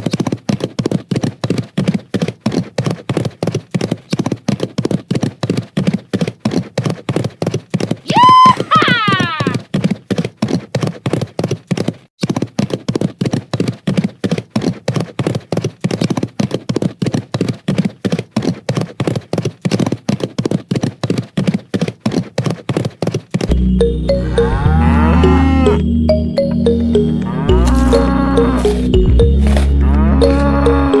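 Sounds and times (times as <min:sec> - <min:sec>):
horse hooves trotting: 0:00.0 - 0:31.0.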